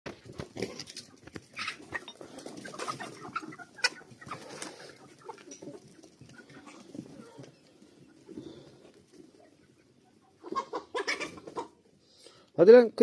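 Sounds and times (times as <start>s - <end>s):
chickens clucking: 0.1s - 12.5s.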